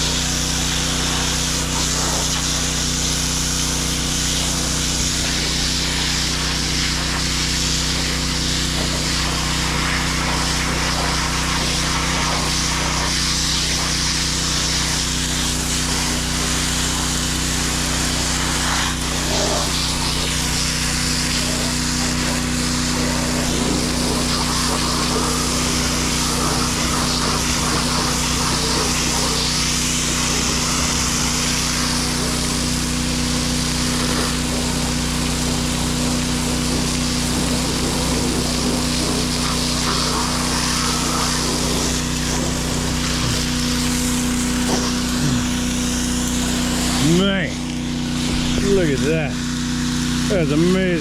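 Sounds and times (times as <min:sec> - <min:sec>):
pressure washer engine droning: 0:00.0 - 0:51.0
water jet spray hiss: 0:00.0 - 0:51.0.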